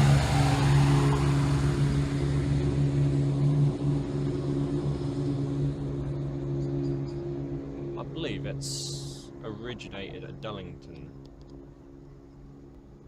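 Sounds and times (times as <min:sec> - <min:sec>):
diesel train engine drone: 0:00.0 - 0:13.0.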